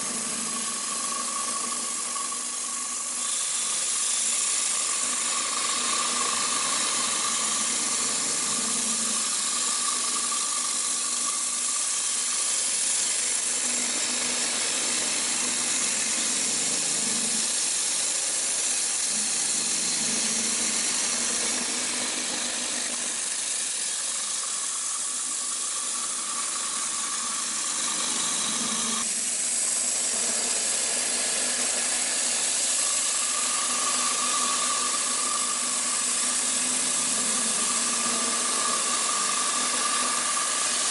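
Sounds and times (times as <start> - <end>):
boring mill hiss: 0.0 - 40.9
machine whine: 0.0 - 40.9.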